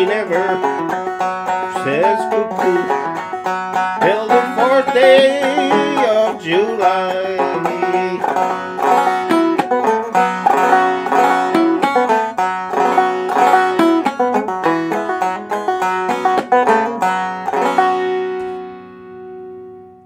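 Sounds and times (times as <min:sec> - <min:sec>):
banjo plucked and brushed: 0:00.0 - 0:19.8.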